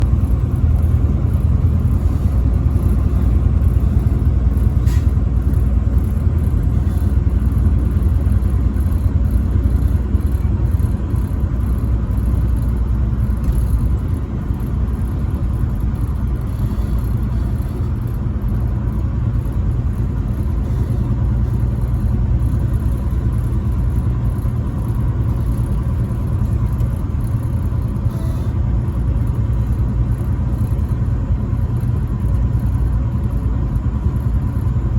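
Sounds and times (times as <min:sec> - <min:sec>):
faint whine: 0:00.0 - 0:34.9
truck engine and road rumble: 0:00.0 - 0:34.9.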